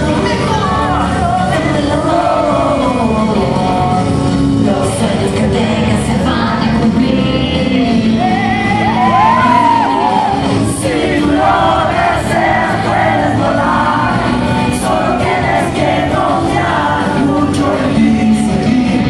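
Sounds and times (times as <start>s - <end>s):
loud live music: 0.0s - 19.0s
people singing into microphones: 0.0s - 19.0s.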